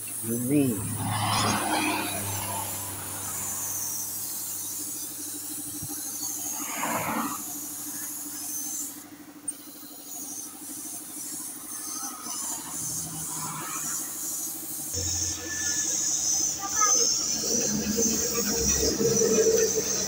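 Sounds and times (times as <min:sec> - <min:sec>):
spray gun hissing: 0:01.2 - 0:20.0.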